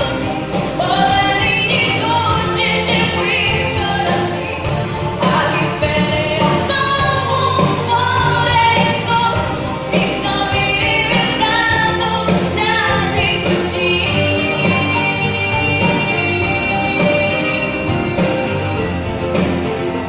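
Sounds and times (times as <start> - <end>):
girl singing: 0.0 - 18.8
pop band backing track: 0.0 - 20.0.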